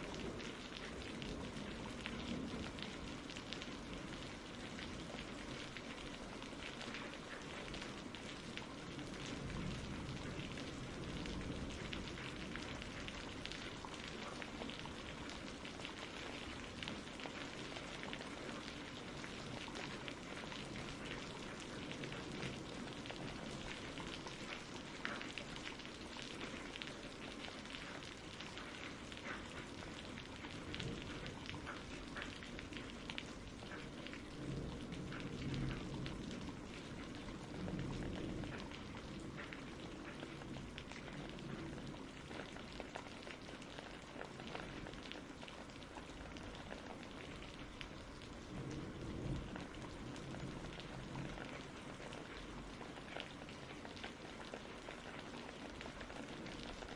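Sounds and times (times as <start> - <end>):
raindrops pattering: 0.0 - 56.9
steady rain hiss: 0.0 - 56.9.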